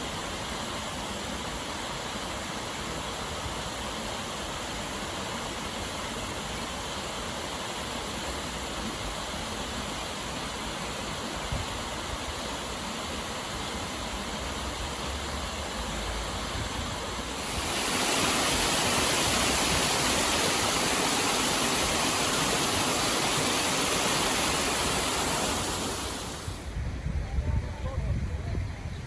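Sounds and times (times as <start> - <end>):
waterfall rushing: 0.0 - 26.8.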